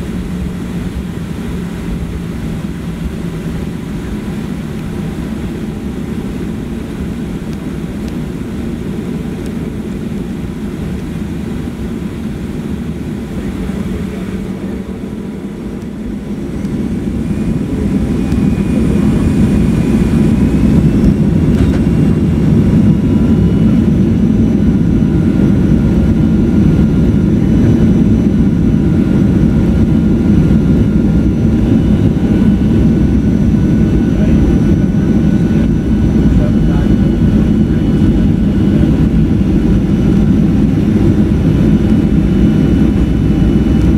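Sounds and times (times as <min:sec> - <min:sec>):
airplane cabin noise: 0:00.0 - 0:43.9
jet engines spooling up with whine: 0:00.0 - 0:43.9.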